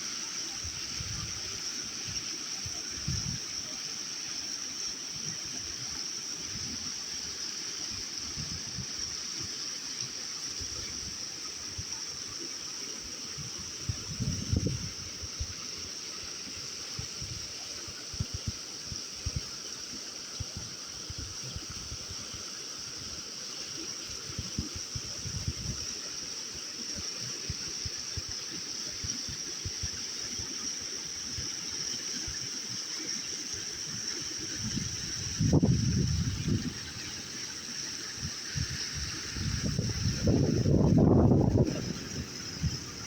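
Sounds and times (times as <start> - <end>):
stream water rushing: 0.0 - 43.0.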